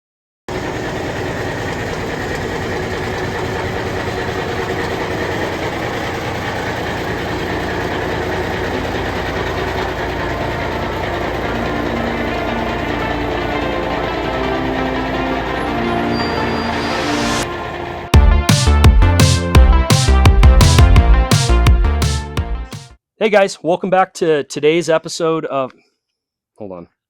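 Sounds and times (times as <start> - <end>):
diesel truck engine idling: 0.5 - 22.4.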